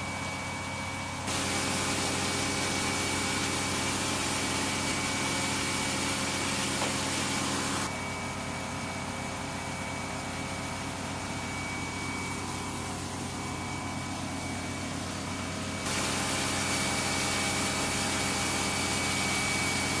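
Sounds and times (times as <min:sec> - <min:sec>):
machinery drone: 0:00.0 - 0:20.0
thin high whine: 0:00.0 - 0:20.0.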